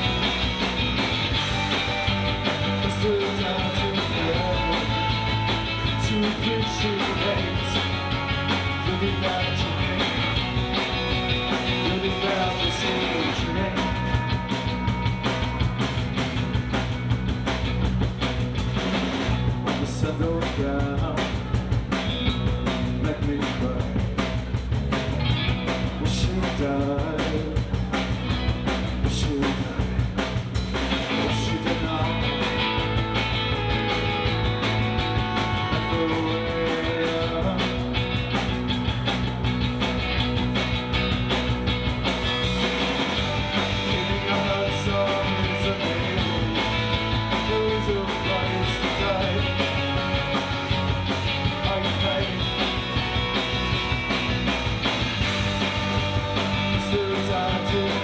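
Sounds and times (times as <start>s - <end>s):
drum kit: 0.0s - 58.0s
electric bass: 0.0s - 58.0s
electric guitar: 0.0s - 58.0s.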